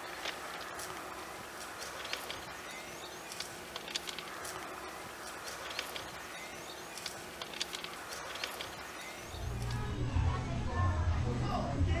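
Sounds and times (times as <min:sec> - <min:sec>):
small birds chirping: 0:00.0 - 0:09.9
outdoor background noise: 0:00.0 - 0:12.0.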